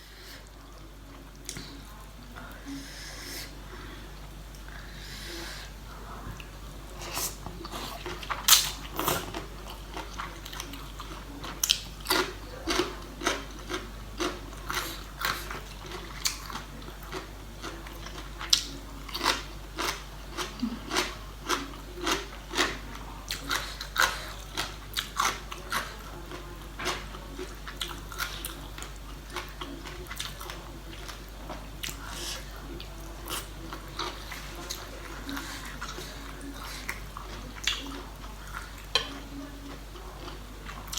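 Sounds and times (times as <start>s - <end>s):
crunchy chewing: 0.0s - 40.9s.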